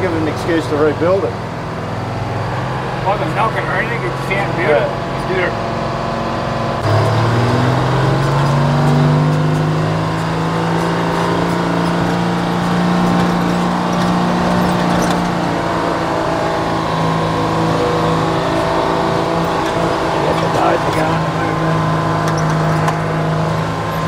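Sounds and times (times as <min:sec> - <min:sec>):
diesel truck engine pulling: 0:00.0 - 0:24.0.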